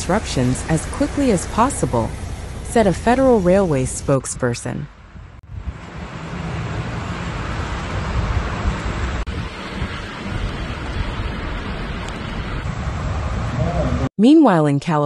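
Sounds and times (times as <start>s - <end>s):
storm wind buffeting microphone: 0.0s - 14.1s.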